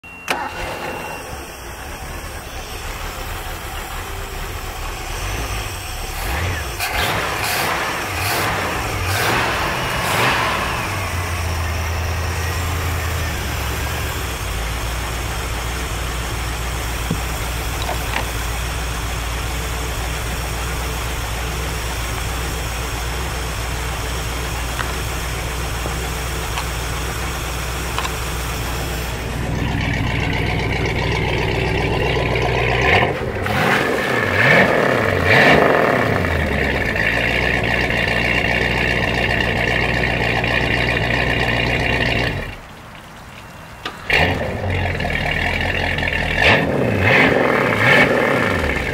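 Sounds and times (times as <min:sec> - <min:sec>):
boat engine revving and idling: 0:00.3 - 0:48.9
water splashing onto pavement: 0:02.8 - 0:48.9.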